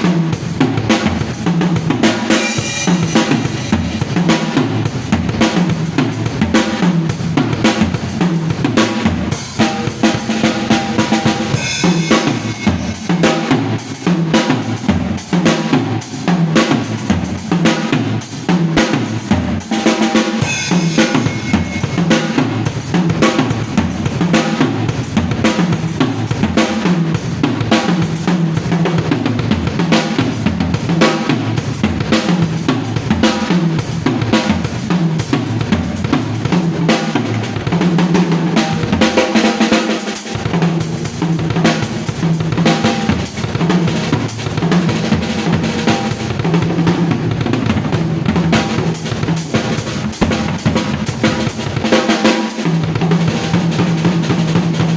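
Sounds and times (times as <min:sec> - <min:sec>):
drum kit playing: 0:00.0 - 0:54.9
kick drum and snare strokes: 0:00.0 - 0:54.9.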